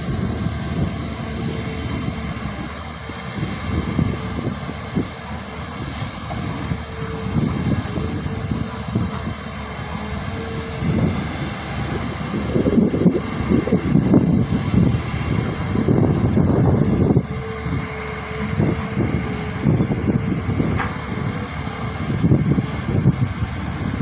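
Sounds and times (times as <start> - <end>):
excavator diesel engine rumbling: 0.0 - 24.0.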